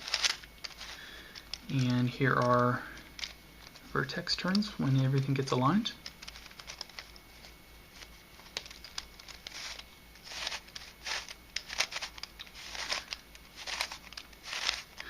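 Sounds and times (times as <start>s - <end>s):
plastic puzzle pieces clicking: 0.0s - 5.4s, 6.0s - 7.2s, 8.4s - 15.0s.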